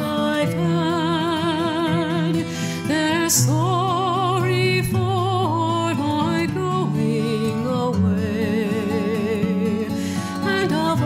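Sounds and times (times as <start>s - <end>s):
person singing with vibrato: 0.0s - 11.0s.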